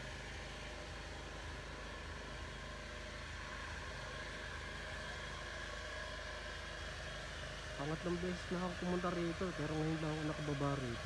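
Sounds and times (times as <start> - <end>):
faint engine-like hum: 0.0 - 11.0.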